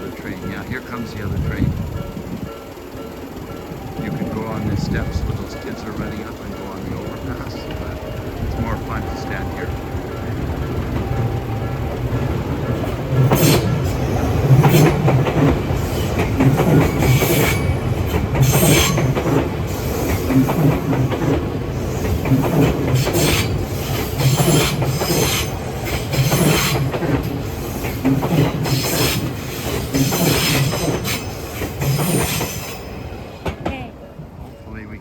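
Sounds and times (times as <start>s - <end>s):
train wheels clacking on rails: 0.0s - 35.0s.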